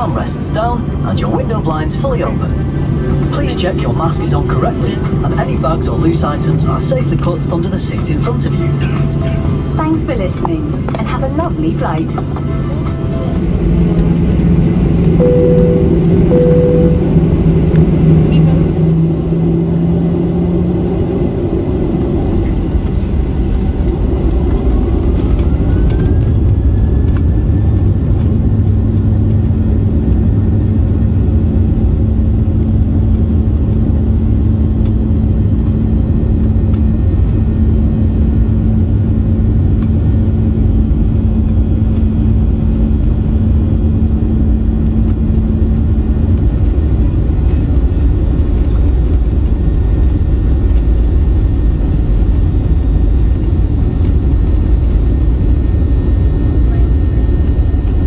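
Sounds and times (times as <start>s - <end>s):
high engine whine: 0.0s - 58.0s
jet engines low rumble: 0.0s - 58.0s
steady hum: 0.0s - 58.0s.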